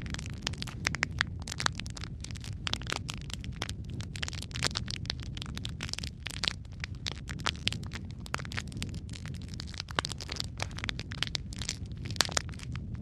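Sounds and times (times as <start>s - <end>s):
low rumble of burning: 0.0s - 13.0s
wood fire crackling and popping: 0.0s - 13.0s.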